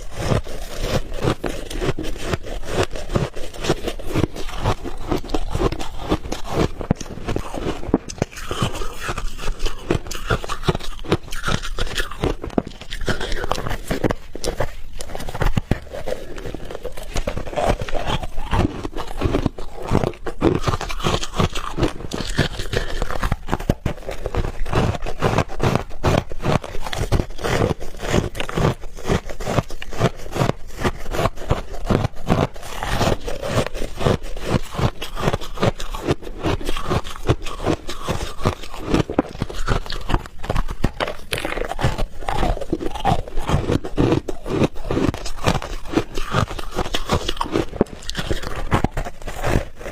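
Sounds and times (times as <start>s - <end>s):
ice being chewed with crunches: 0.0s - 49.9s.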